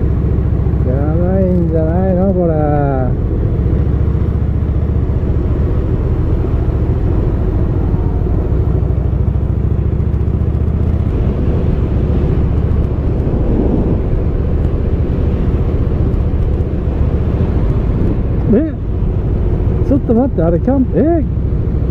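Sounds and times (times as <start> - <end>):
motorcycle engine droning: 0.0 - 21.9.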